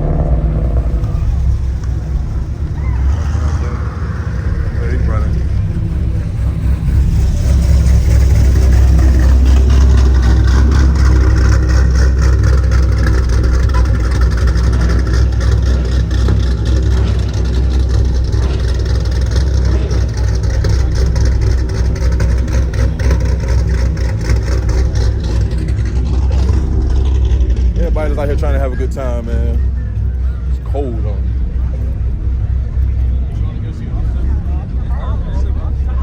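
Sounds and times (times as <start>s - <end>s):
car engines running: 0.0s - 36.0s.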